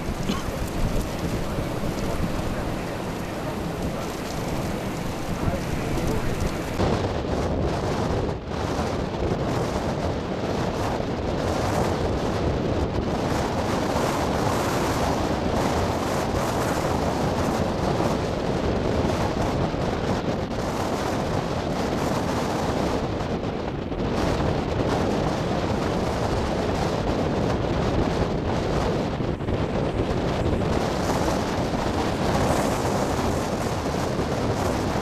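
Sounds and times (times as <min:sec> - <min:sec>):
strong wind buffeting microphone: 0:00.0 - 0:35.0.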